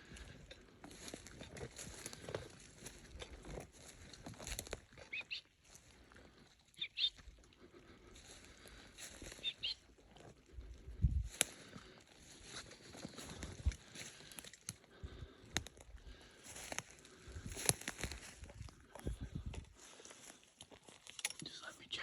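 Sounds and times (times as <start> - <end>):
footsteps on forest floor: 0.0 - 21.4
rustling on forest floor: 0.0 - 21.7.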